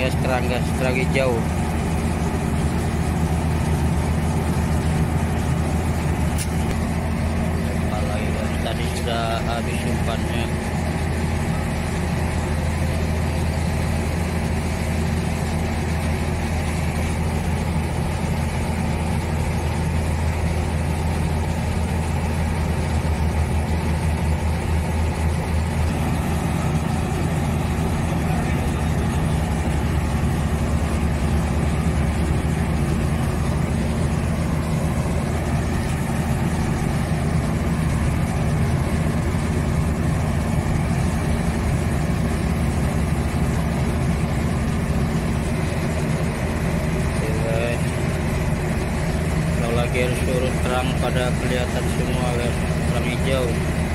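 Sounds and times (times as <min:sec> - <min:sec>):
boat engine idling: 0:00.0 - 0:53.9.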